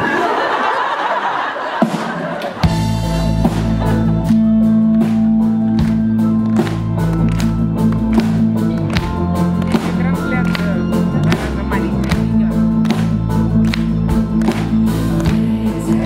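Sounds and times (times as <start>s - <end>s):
rock band with strings: 0.0s - 16.0s.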